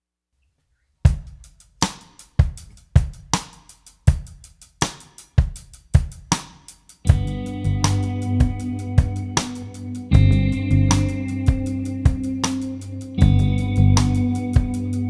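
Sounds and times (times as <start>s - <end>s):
drum-kit groove: 1.1s - 15.0s.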